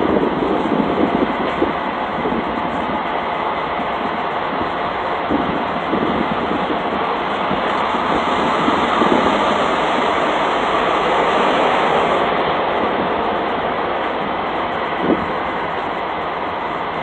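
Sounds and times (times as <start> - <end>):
diesel truck idling: 0.0 - 17.0.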